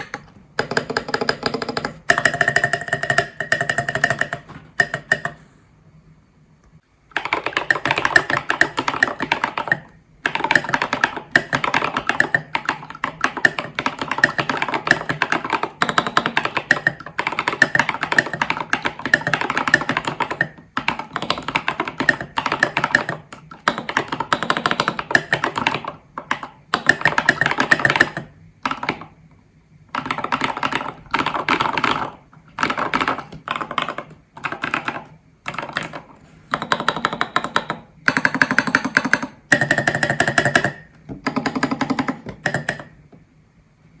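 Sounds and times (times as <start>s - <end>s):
fast mechanical keyboard typing: 0.0s - 5.4s, 7.1s - 29.2s, 29.9s - 43.0s.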